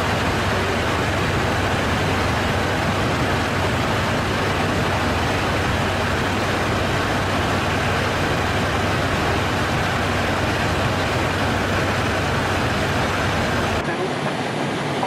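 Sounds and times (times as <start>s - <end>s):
low hum: 0.0s - 13.8s
cockpit airflow and engine noise: 0.0s - 15.0s.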